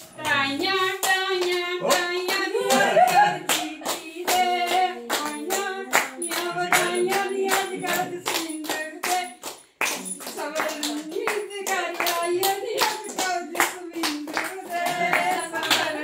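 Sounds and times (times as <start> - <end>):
women clapping in rhythm: 0.0 - 16.0
women singing: 0.0 - 16.0.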